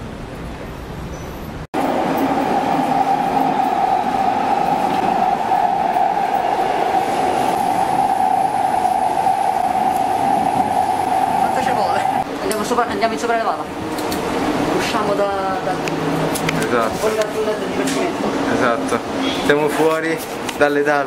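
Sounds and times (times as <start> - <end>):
train rolling with whine: 1.8 - 20.4.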